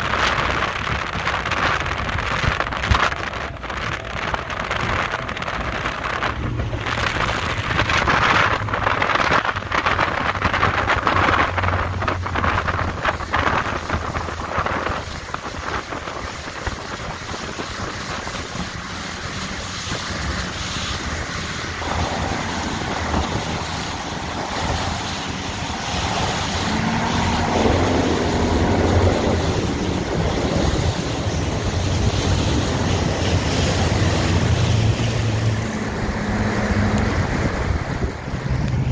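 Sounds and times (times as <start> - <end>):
outboard motor running: 0.0 - 38.9
rush of wake and spray: 0.0 - 38.9
wind buffeting microphone: 0.0 - 38.9.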